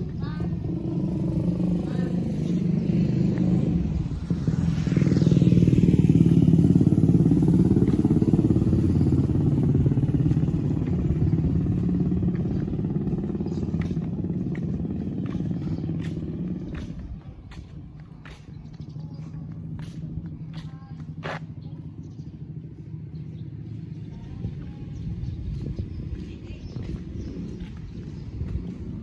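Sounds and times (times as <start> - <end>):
motorcycle engine passing: 0.0 - 29.0.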